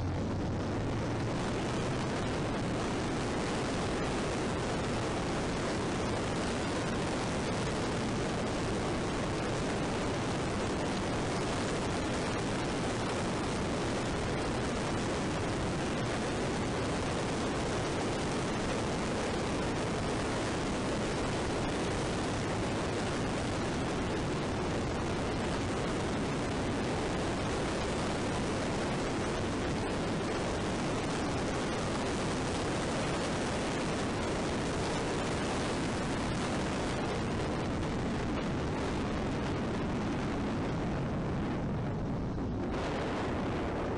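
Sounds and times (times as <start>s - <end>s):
wind noise on microphone: 0.0s - 43.9s.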